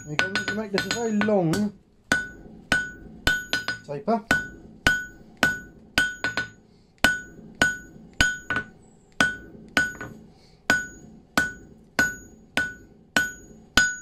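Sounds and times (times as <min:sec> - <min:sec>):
anvil ringing: 0:00.0 - 0:14.0
hammer striking hot metal on anvil: 0:00.0 - 0:14.0.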